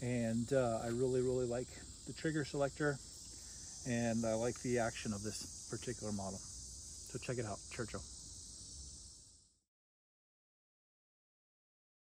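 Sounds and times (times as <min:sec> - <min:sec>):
crickets chirring: 0:00.0 - 0:09.7.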